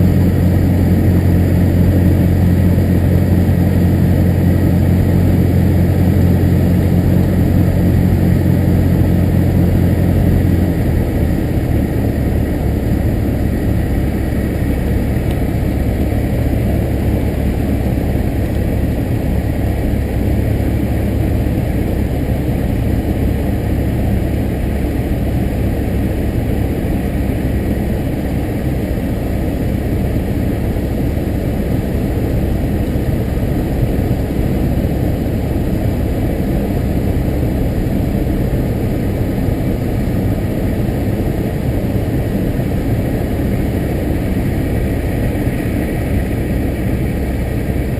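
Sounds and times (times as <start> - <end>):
aircraft engine and propeller: 0.0 - 47.9.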